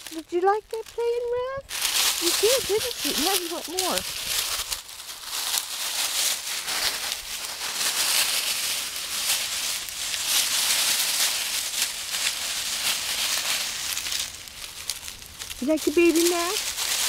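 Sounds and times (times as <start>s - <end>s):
dry leaves crunching and rustling: 0.0s - 17.0s.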